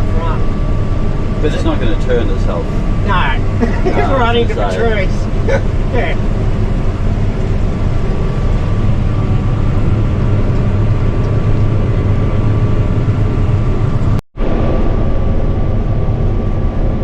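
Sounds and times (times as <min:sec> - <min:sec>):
combine harvester drone: 0:00.0 - 0:17.0
faint steady whine: 0:00.0 - 0:17.0.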